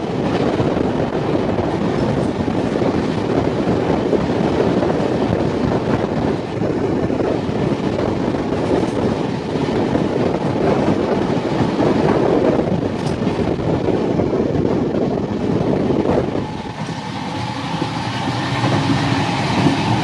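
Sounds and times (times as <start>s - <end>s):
train wheel-on-rail running noise: 0.0s - 20.0s.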